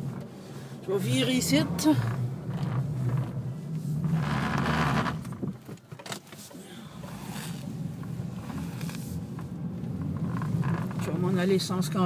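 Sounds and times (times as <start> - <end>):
car engine at low speed: 0.0 - 12.0.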